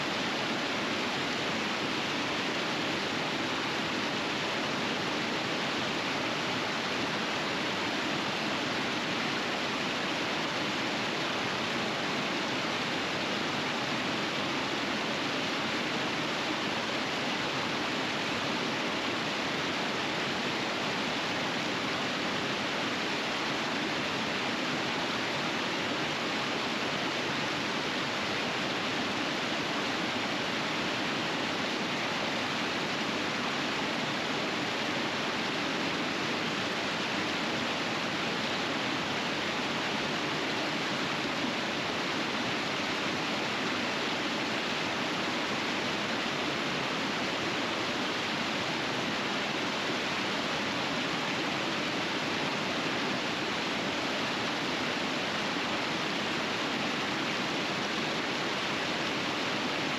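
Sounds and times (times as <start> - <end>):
river rapids rushing: 0.0 - 59.9.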